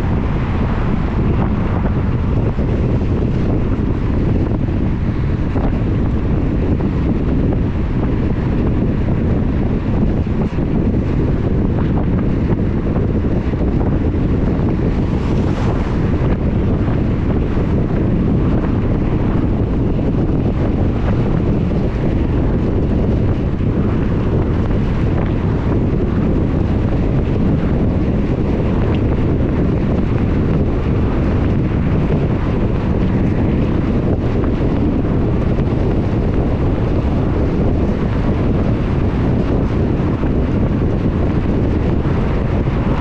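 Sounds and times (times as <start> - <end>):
car road and wind rumble: 0.0 - 43.0.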